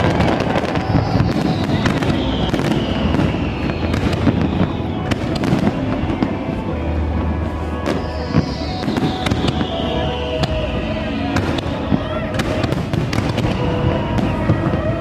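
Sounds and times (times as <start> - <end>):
fireworks crackling bangs: 0.0 - 15.0
low rumble of fireworks booms: 0.0 - 15.0.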